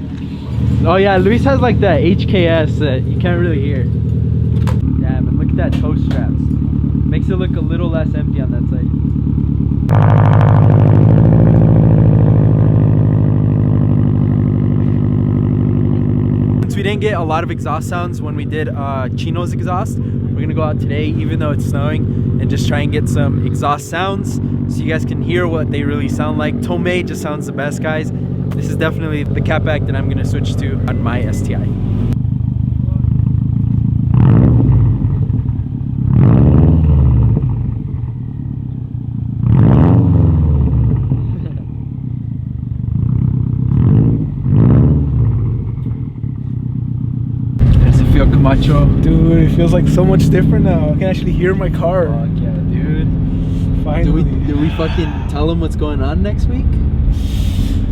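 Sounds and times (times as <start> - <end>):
car engine exhaust note: 0.0 - 57.9.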